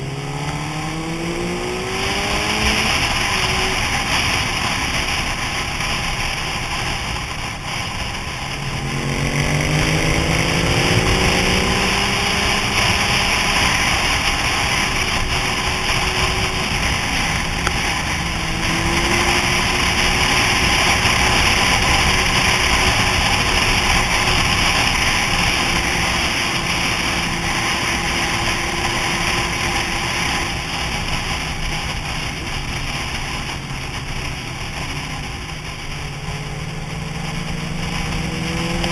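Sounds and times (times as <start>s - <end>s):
motorcycle engine accelerating: 0.0s - 38.9s
wind rush on microphone: 0.0s - 38.9s.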